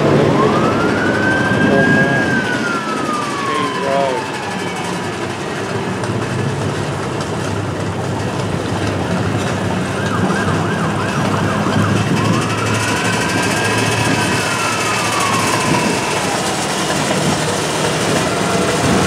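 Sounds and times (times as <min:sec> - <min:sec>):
siren yelp: 0:00.0 - 0:05.9, 0:09.1 - 0:19.0
siren wail: 0:00.0 - 0:06.0, 0:08.5 - 0:19.0
vehicle engines running: 0:00.0 - 0:19.0.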